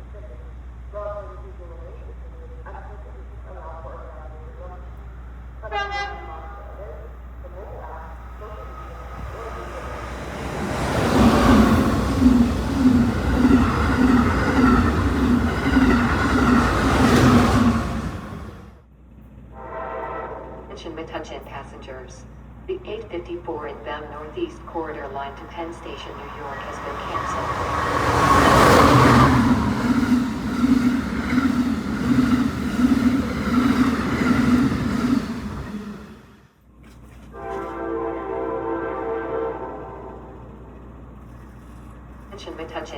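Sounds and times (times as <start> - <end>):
high-speed train passing: 0.0 - 36.6, 42.0 - 42.9
train whine: 0.0 - 36.6.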